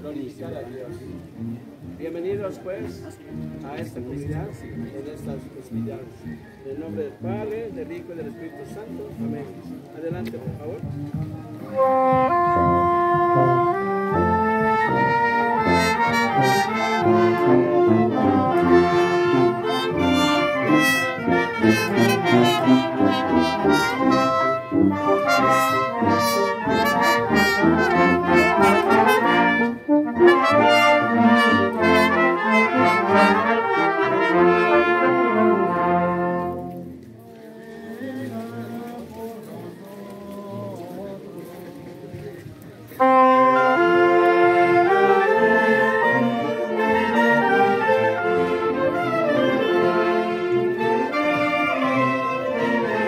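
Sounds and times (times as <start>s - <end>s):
brass wind band playing: 0.0s - 7.4s, 8.0s - 37.2s, 42.9s - 53.0s.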